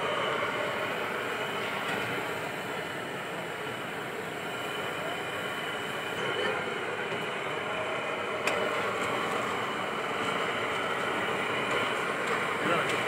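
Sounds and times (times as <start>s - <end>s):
griddle hissing and rumbling: 0.0s - 13.0s.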